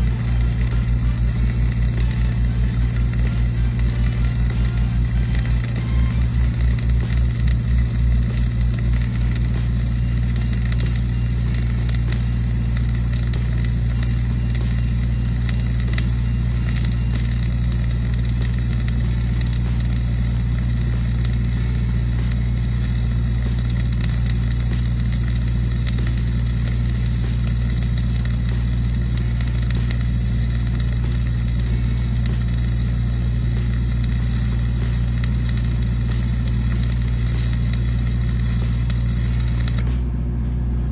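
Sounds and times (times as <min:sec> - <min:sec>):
welding arc crackling: 0:00.0 - 0:40.0
welding machine engine humming: 0:00.0 - 0:40.9.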